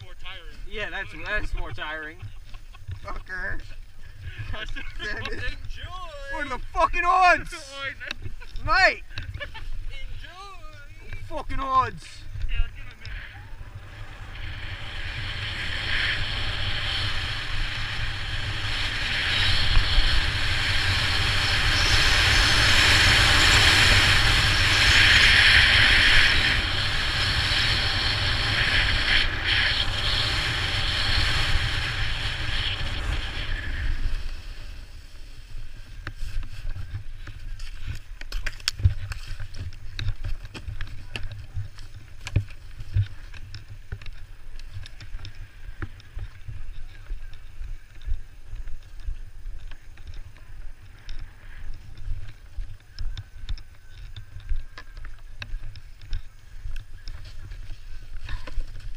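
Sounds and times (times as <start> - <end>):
snowboard scraping over snow: 0.6 - 58.9
wind on microphone: 8.0 - 58.9.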